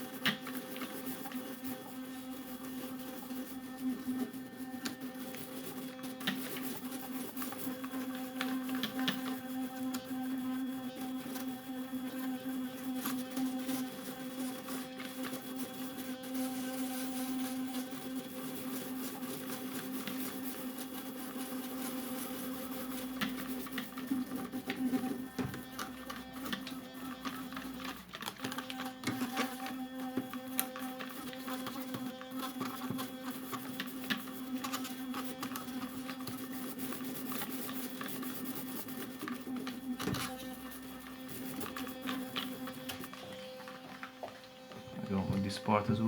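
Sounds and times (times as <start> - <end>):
electric toothbrush buzzing: 0.0 - 46.0.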